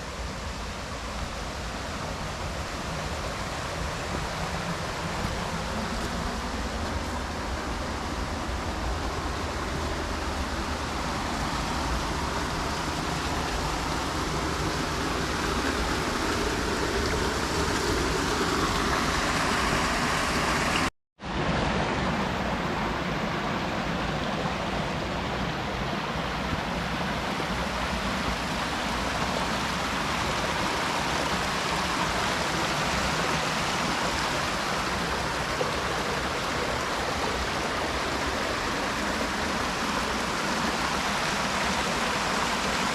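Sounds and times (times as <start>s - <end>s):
creek water rushing: 0.0s - 42.9s.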